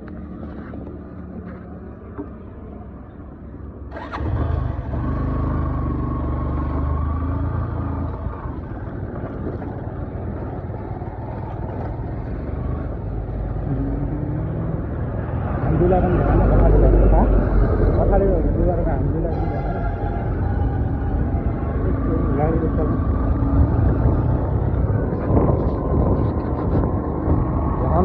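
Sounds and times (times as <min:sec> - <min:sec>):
steady engine whine: 0:00.0 - 0:28.0
vehicle engine rumble: 0:00.0 - 0:28.0.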